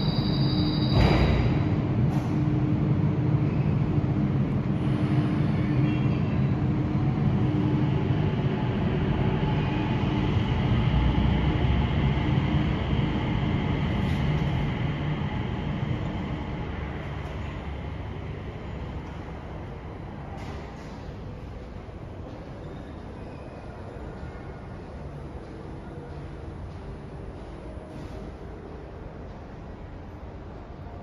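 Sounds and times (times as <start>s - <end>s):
people mover train rumbling: 0.0s - 31.0s.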